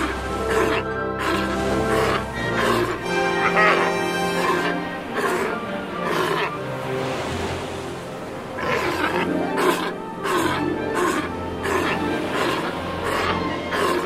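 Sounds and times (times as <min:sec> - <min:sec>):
sea lions bellowing and roaring: 0:00.0 - 0:14.0.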